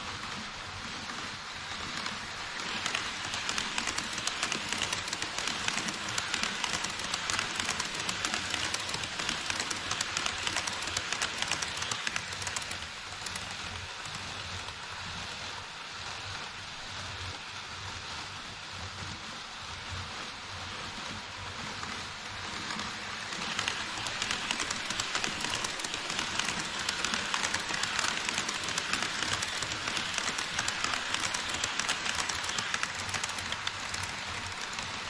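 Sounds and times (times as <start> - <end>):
model train wheels rattling: 0.0 - 14.8, 21.1 - 35.0.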